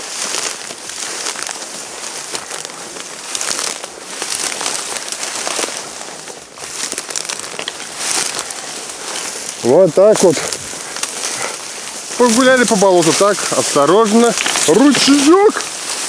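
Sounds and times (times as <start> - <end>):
reed stalks rustling and crackling: 0.0 - 16.0.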